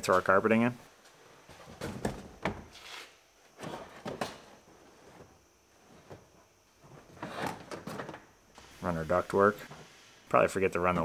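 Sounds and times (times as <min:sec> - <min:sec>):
carpet rustling and scraping: 0:00.0 - 0:10.2.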